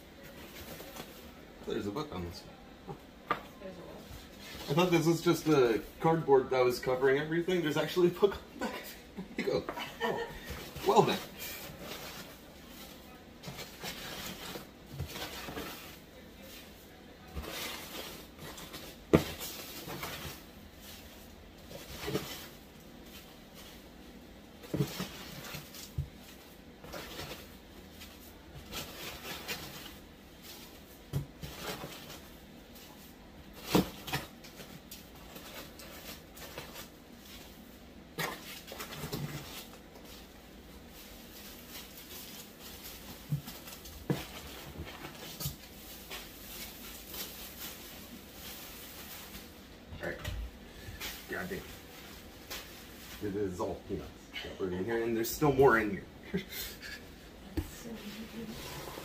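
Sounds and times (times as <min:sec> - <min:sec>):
plastic bags rustling and crinkling: 0:03.6 - 0:59.0.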